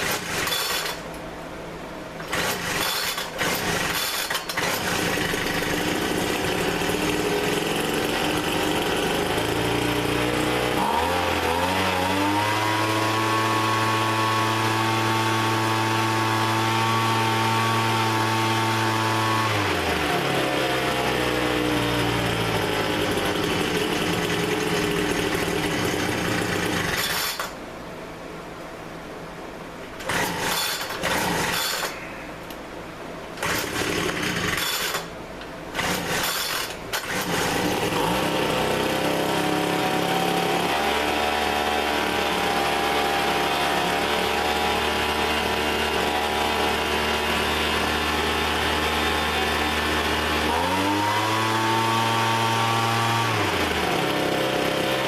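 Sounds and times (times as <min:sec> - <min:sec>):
two-stroke leaf blower engine: 0:00.0 - 0:01.2, 0:02.2 - 0:27.6, 0:30.0 - 0:32.1, 0:33.4 - 0:55.0.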